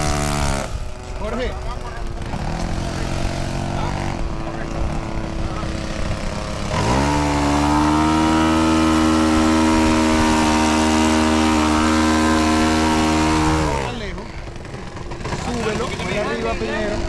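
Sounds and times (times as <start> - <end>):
model airplane engine revving: 0.0 - 17.0.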